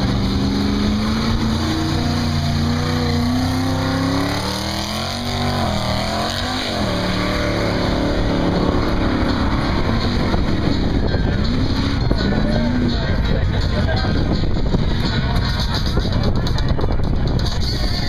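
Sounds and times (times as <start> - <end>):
truck engine running hard: 0.0 - 18.0.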